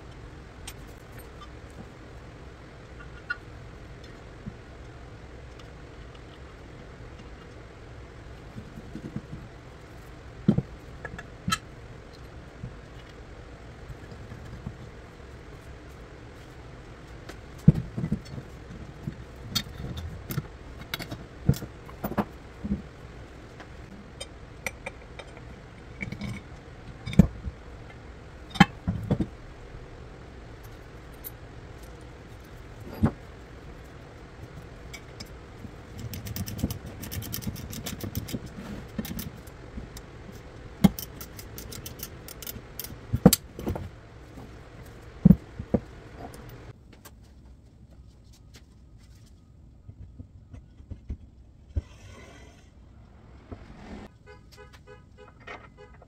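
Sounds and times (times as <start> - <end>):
steady background noise: 0.0 - 56.0.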